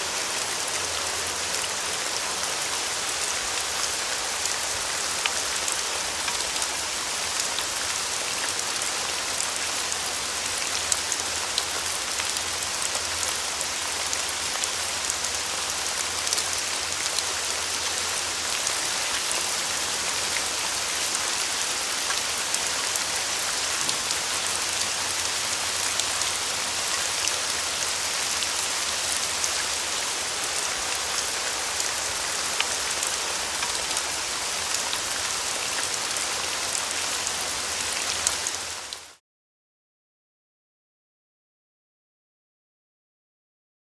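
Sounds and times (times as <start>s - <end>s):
light rain pattering: 0.0s - 39.2s.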